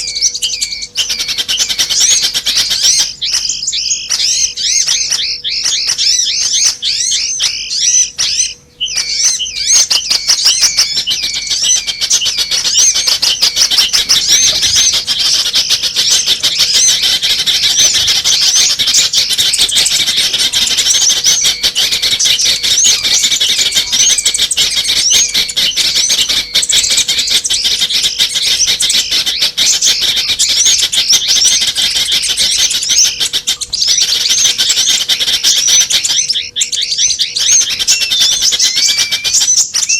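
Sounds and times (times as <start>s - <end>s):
faint steady hum: 0.0s - 39.9s
small birds chirping and chattering: 0.0s - 39.9s.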